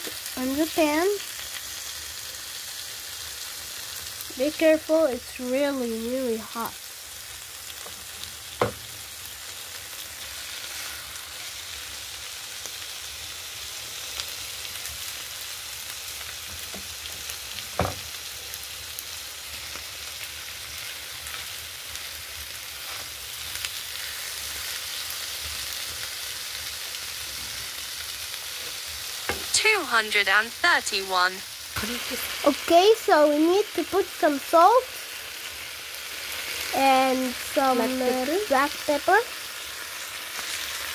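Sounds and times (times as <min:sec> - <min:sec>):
chicken sizzling in a frying pan: 0:00.0 - 0:40.9.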